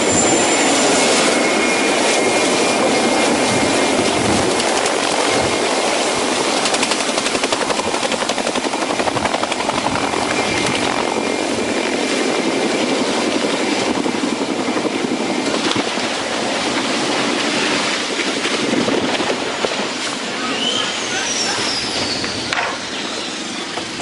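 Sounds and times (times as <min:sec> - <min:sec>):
helicopter engine whine: 0:00.0 - 0:24.0
helicopter rotor beating: 0:00.0 - 0:24.0.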